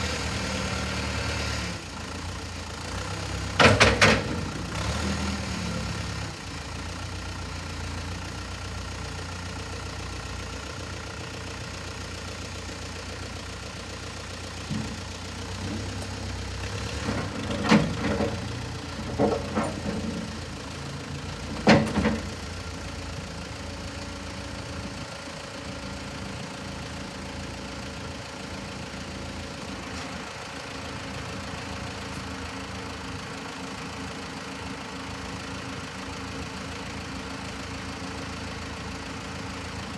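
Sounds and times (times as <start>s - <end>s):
backhoe engine idling: 0.0s - 39.9s.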